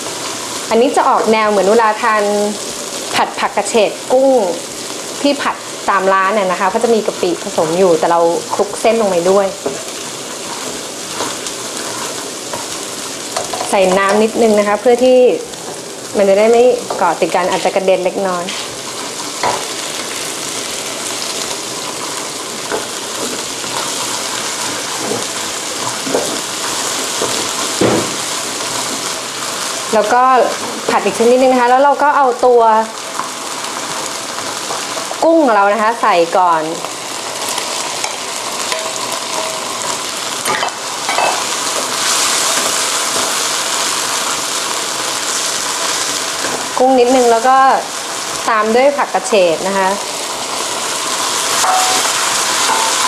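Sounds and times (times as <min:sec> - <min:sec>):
paste sizzling in hot oil: 0:00.0 - 0:53.0.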